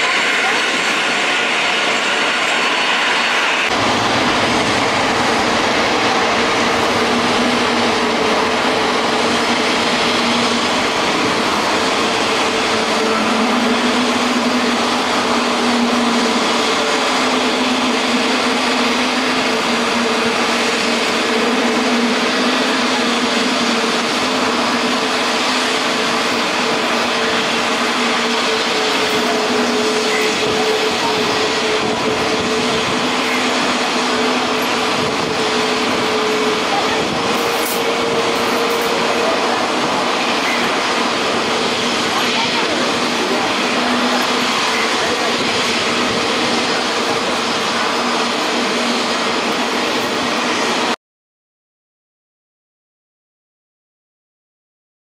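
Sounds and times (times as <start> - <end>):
jet engines running: 0.0 - 51.0.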